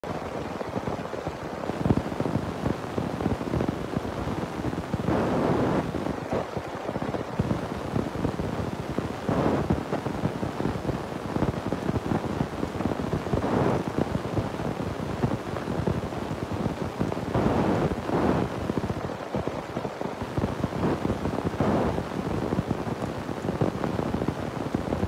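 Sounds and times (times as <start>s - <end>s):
rain and hail on rooftops: 0.0s - 25.0s.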